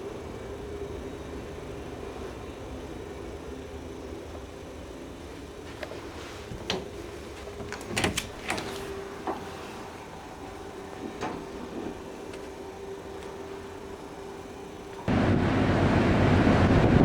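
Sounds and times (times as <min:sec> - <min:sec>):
ferry engine hum: 0:00.0 - 0:17.0.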